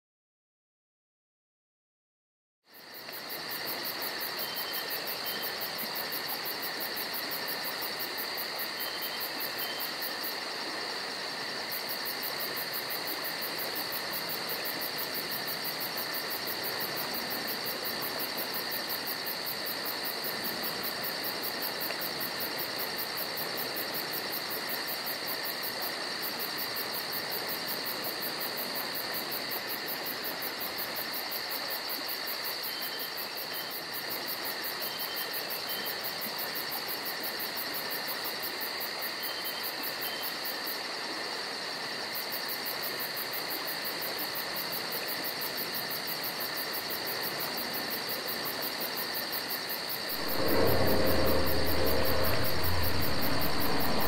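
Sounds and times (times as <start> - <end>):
crickets trilling: 2.7 - 54.0.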